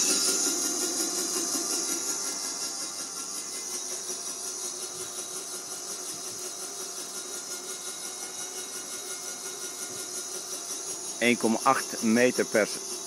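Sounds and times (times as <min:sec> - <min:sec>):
electric winch whining: 0:00.0 - 0:13.0.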